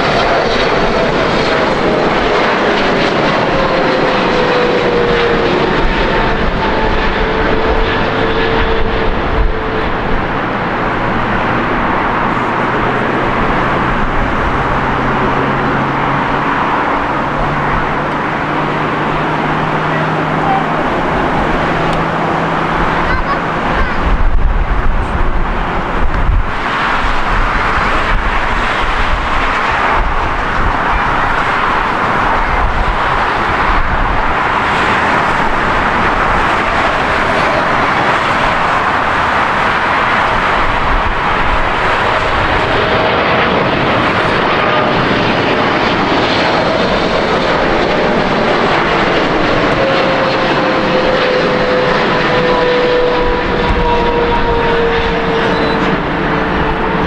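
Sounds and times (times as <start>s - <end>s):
jet engine whine: 0.0s - 57.0s
jet landing rumble: 0.0s - 57.0s.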